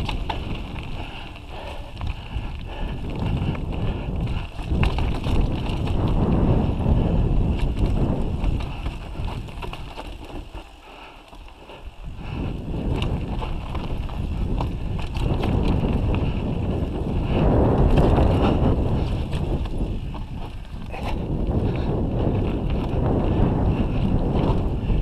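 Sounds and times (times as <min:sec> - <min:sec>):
bike rattling and clicking: 0:00.0 - 0:25.0
tyres rolling on dirt: 0:00.0 - 0:25.0
wind noise on microphone: 0:00.0 - 0:25.0.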